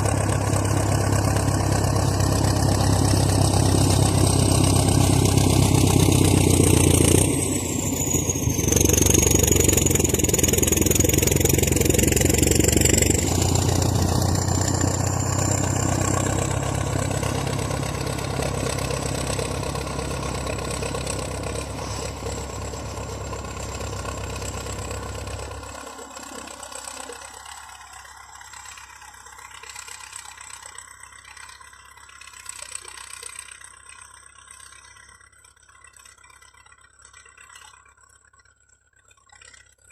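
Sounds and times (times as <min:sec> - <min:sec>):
tractor diesel engine running: 0:00.0 - 0:38.4.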